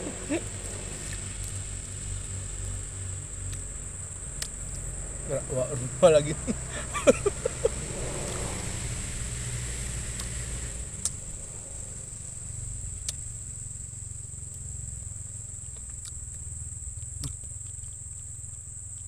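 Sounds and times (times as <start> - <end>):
low rumble: 0.0 - 17.5
insects droning: 0.0 - 19.0.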